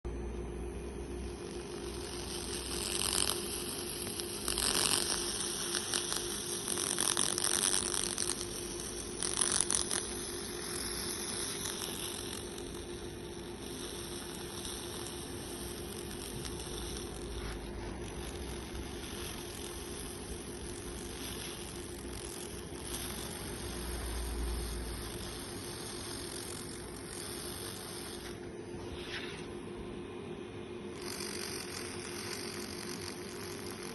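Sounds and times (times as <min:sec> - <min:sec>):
machine hum: 0:00.0 - 0:33.9
laser crackling on wood: 0:00.1 - 0:33.9.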